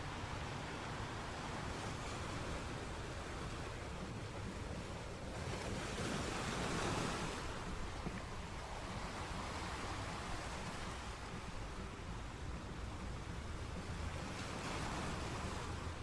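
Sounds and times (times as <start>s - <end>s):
sea waves breaking on shore: 0.0s - 16.0s.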